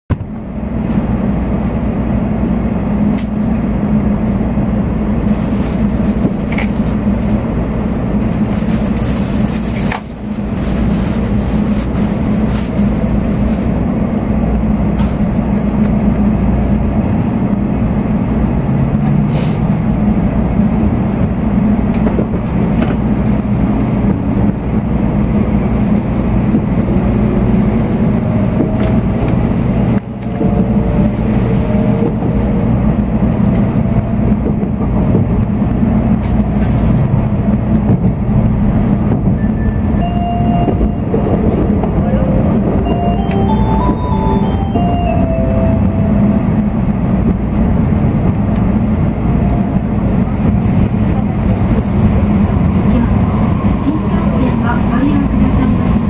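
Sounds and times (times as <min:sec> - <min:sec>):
train running rumble: 0:00.1 - 0:56.0.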